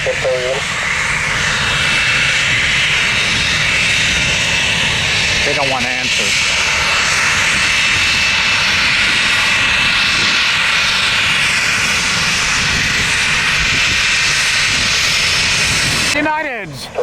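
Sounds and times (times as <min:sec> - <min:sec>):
jet engines running loud: 0:00.0 - 0:17.0.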